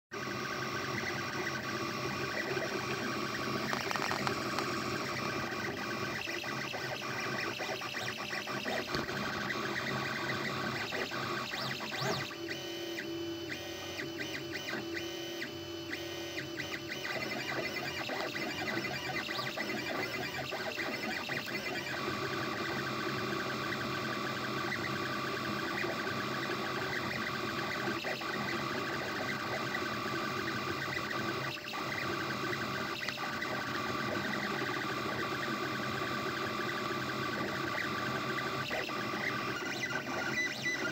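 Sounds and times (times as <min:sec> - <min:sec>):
three d printer motors whining: 0:00.2 - 0:40.9.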